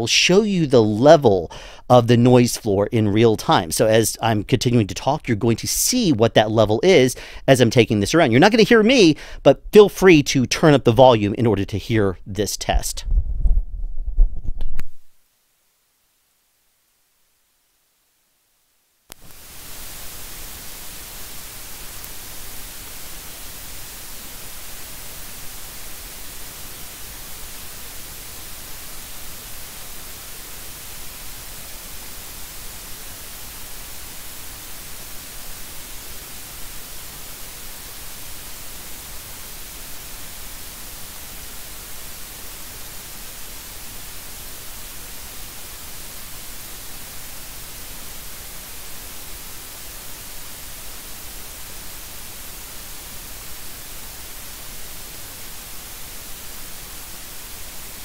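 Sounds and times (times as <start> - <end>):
microphone preamp hiss: 0.0 - 58.0.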